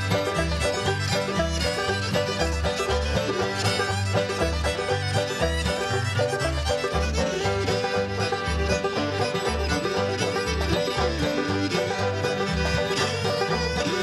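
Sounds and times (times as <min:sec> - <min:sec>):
banjo: 0:00.0 - 0:14.0
fiddle: 0:00.0 - 0:14.0
string band playing: 0:00.0 - 0:14.0.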